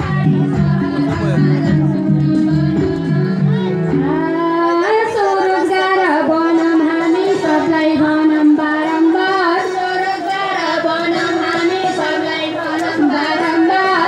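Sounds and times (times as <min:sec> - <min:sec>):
woman singing folk song: 0:00.0 - 0:14.0.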